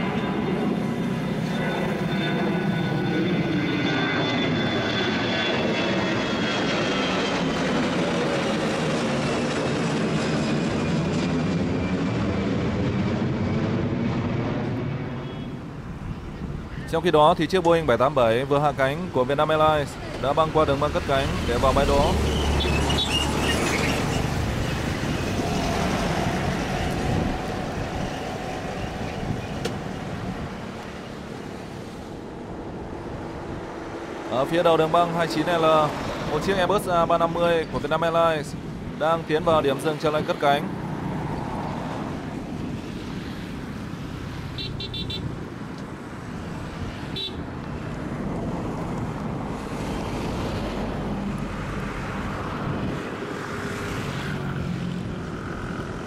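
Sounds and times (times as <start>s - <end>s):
distant jet engines rumbling: 0.0s - 56.0s.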